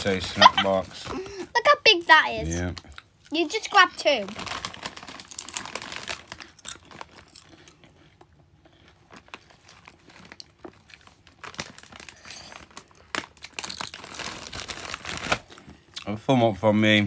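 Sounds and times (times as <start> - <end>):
crisp packet crinkling: 0.0 - 1.7, 2.7 - 15.7.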